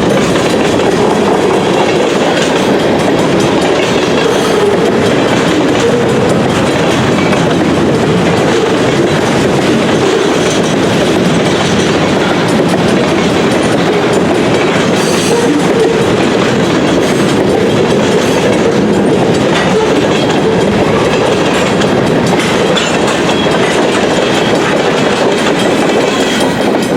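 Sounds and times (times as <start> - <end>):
freight train rolling past: 0.0 - 26.9
wheels clicking over rail joints: 0.0 - 26.9.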